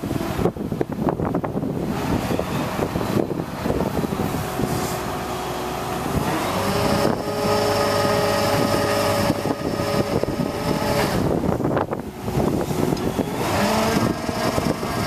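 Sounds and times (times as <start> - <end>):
truck engine running hydraulics: 0.0 - 15.0.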